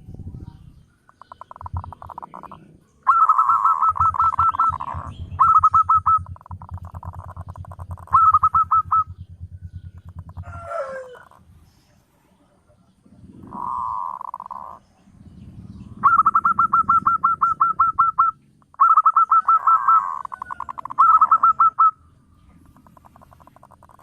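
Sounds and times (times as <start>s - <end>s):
dove cooing: 0.0s - 11.5s, 13.1s - 14.9s, 15.9s - 22.0s, 22.6s - 24.0s.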